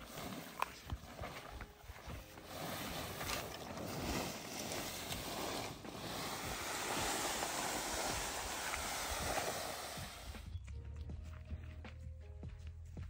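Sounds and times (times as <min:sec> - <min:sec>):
tarp scraping across grass: 0:00.0 - 0:10.5.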